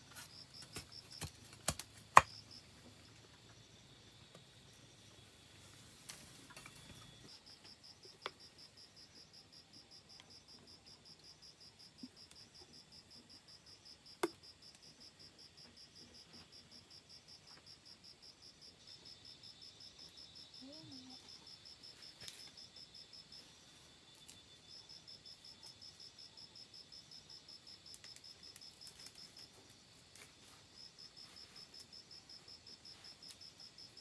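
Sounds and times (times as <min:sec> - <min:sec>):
cricket chirping: 0:00.0 - 0:34.0.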